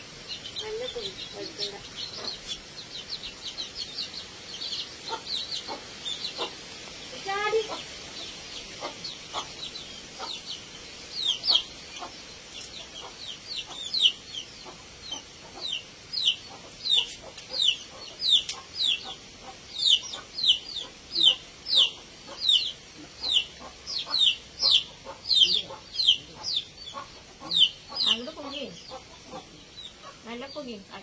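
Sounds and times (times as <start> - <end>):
chicks peeping: 0.2 - 31.0.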